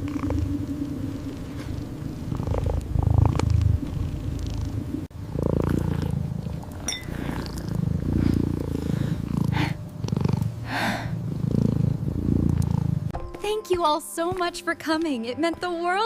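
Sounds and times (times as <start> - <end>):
cat purring: 0.0 - 13.1.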